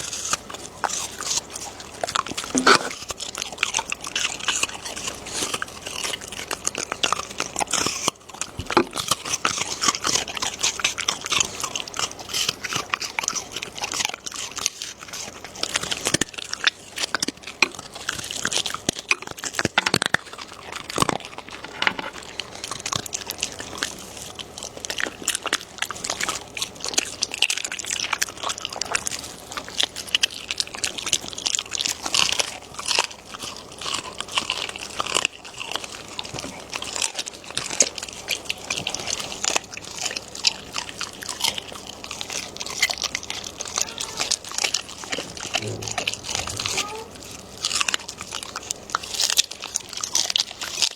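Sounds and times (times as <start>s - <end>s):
dog chewing and crunching food: 0.0s - 50.9s.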